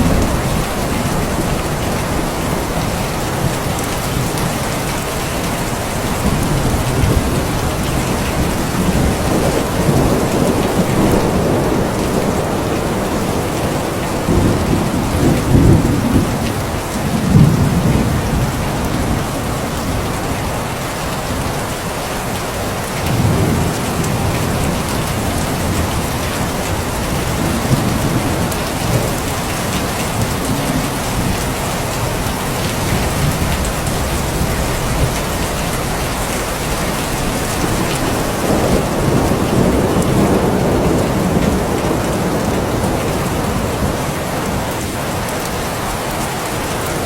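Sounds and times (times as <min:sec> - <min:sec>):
thunder rolling: 0:00.0 - 0:20.4, 0:23.0 - 0:44.8
heavy rain falling: 0:00.0 - 0:47.0.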